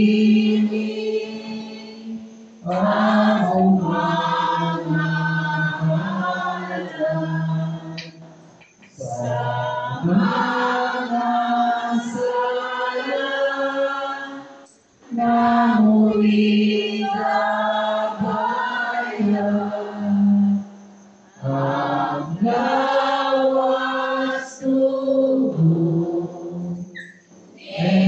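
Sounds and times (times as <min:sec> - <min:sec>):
voices singing a hymn: 0:00.0 - 0:28.0.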